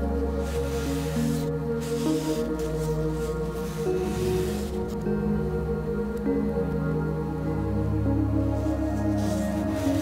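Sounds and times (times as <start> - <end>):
calm music with long held chords: 0.0 - 10.0.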